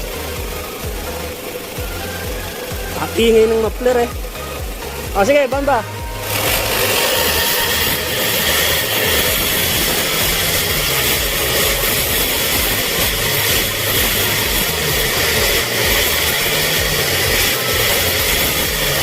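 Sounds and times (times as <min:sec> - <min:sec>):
diesel engine revving high: 0:00.0 - 0:19.0
loud exhaust note: 0:00.0 - 0:19.0.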